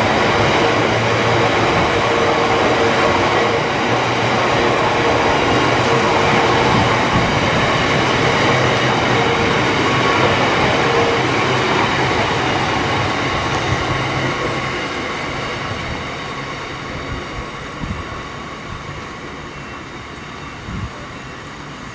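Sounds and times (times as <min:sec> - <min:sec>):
freight train wheels rumbling: 0:00.0 - 0:21.9.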